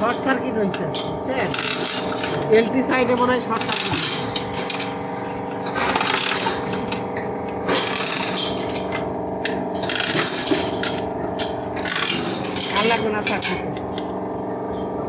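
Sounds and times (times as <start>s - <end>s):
clinks and knocks of parts: 0.0s - 14.8s
steady mechanical hum: 0.0s - 15.0s.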